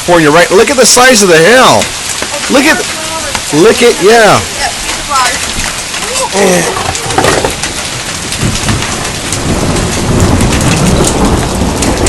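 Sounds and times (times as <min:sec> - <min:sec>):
hailstones pelting down: 0:00.0 - 0:12.0.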